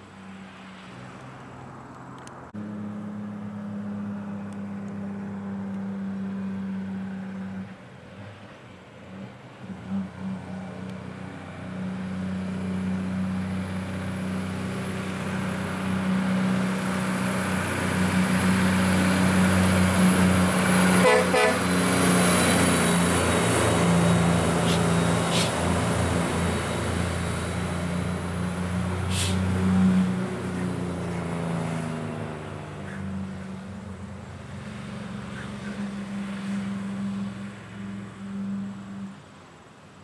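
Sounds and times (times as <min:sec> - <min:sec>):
heavy diesel truck engines: 0:00.0 - 0:40.0.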